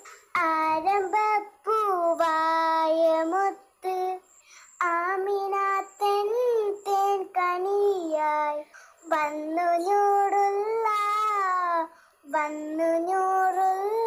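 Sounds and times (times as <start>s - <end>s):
child singing unaccompanied: 0.0s - 14.0s.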